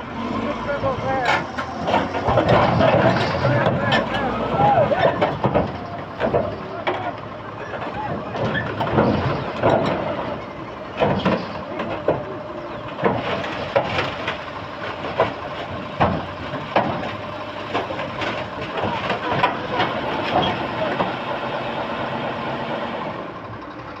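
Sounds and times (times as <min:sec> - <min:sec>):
bulldozer running: 0:00.0 - 0:24.0.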